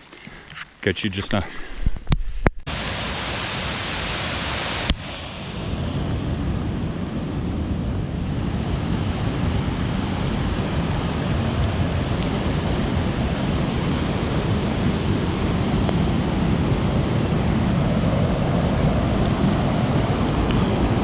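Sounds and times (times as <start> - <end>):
waterfall rushing: 2.7 - 21.0.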